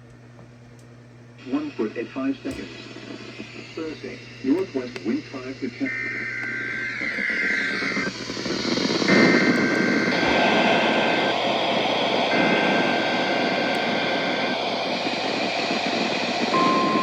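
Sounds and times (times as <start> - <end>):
radio static: 1.4 - 17.0.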